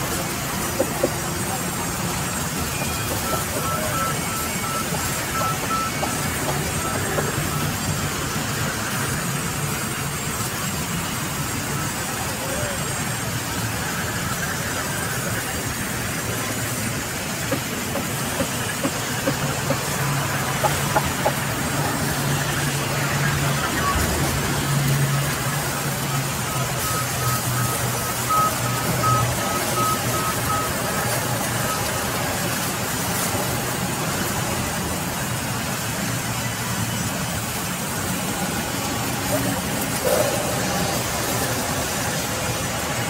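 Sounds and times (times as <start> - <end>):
mill machinery running: 0.0 - 43.0.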